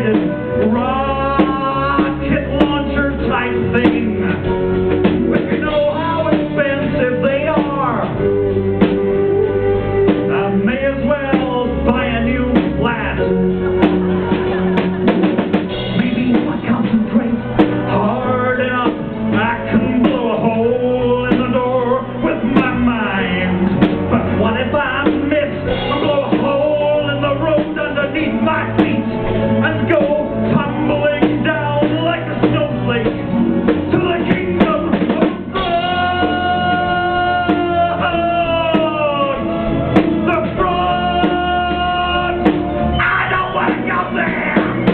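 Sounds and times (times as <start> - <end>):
drum kit: 0.0 - 44.9
live band playing pop song: 0.0 - 44.9
person singing: 0.0 - 44.9.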